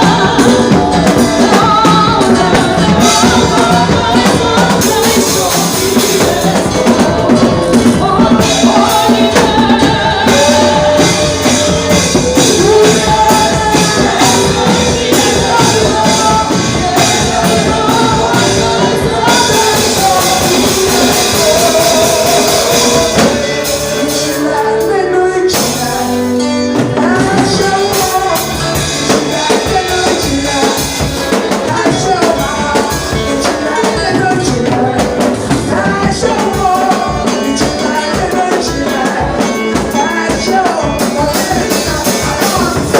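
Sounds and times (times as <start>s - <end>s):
band with drums: 0.0s - 42.9s
people singing: 0.0s - 42.9s.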